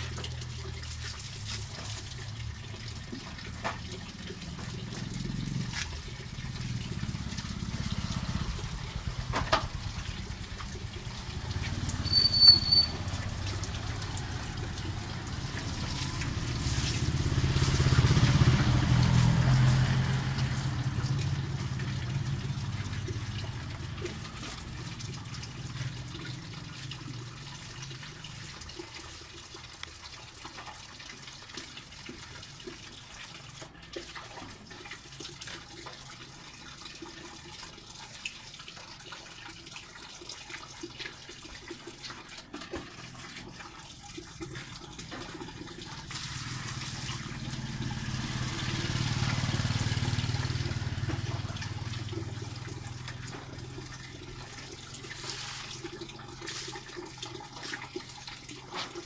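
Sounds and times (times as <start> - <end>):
rain water falling and running: 0.0 - 59.0.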